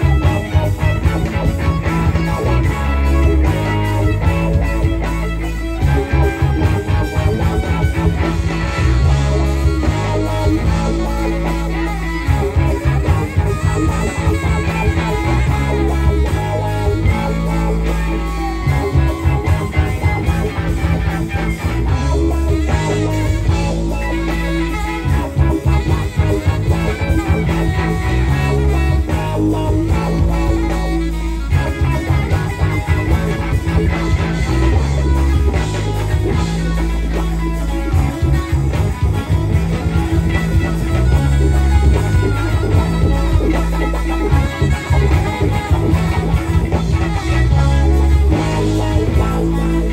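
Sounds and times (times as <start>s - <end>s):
bass line: 0.0s - 49.9s
drums: 0.0s - 49.9s
electric guitar: 0.0s - 49.9s.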